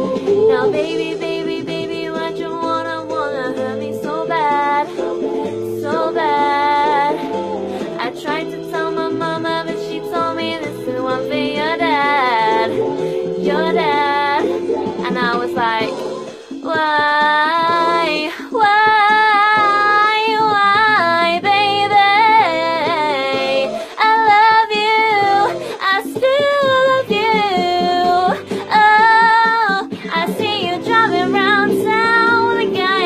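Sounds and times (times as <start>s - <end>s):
instrumental backing: 0.0s - 33.0s.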